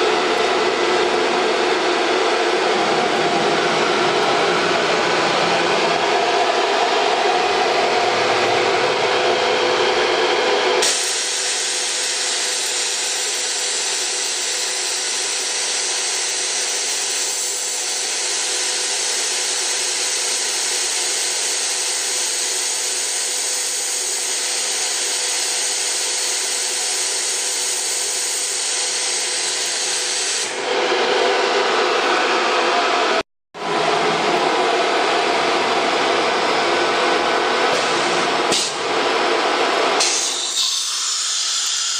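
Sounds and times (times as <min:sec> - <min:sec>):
cnc router spindle cutting: 0:00.0 - 0:41.9.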